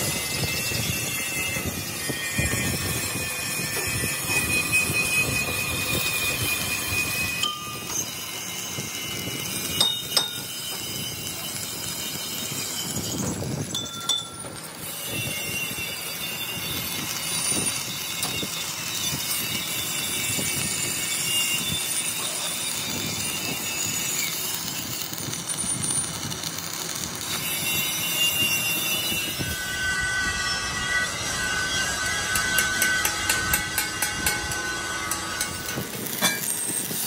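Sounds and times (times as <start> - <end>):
welding arc crackling hiss: 0.0 - 37.0.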